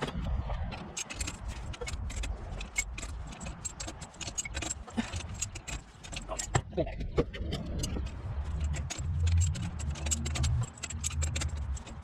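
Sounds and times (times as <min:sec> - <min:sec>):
hand tools clicking on metal: 0:00.0 - 0:06.6, 0:07.5 - 0:12.0.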